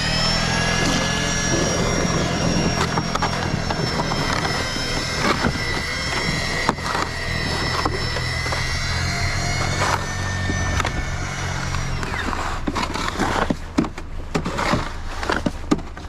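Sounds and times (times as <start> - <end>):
engine whining at high speed: 0.0 - 16.0.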